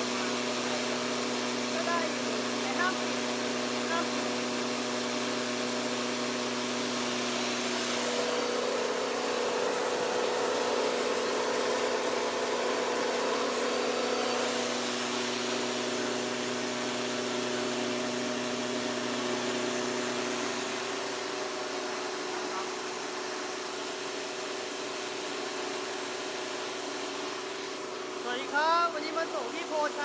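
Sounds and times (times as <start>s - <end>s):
rice mill humming: 0.0s - 30.0s.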